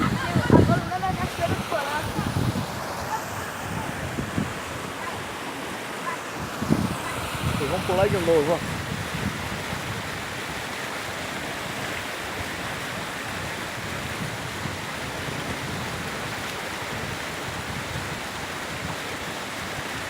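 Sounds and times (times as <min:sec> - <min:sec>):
waterfall rushing and splashing: 0:00.0 - 0:20.0.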